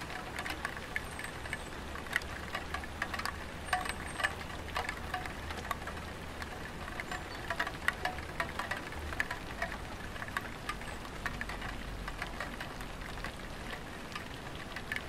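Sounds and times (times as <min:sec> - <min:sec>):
raindrops tapping on roof: 0:00.0 - 0:15.0.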